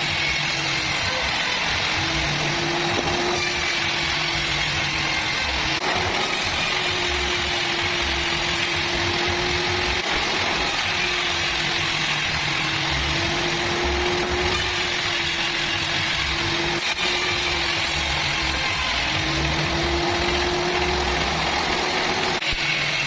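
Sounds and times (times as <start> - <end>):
sawmill machinery hum and hiss: 0.0 - 23.0.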